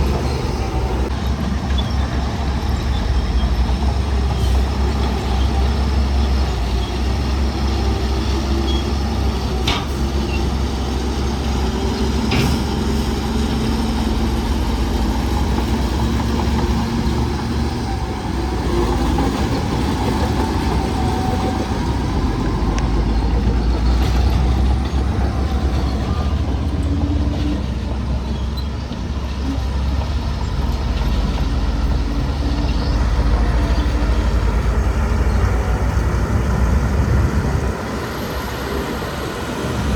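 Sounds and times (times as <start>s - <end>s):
heavy diesel engine rumbling: 0.0s - 39.9s.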